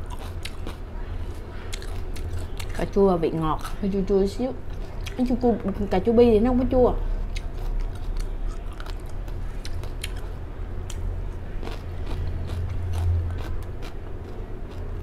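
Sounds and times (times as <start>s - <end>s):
chewing crisp salad: 0.0s - 3.8s, 4.7s - 5.4s, 7.0s - 15.0s
steady low hum: 0.0s - 15.0s.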